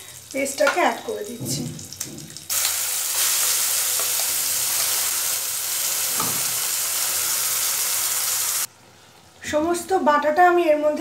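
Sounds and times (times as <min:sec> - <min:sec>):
food sizzling in hot oil: 0:00.0 - 0:09.4.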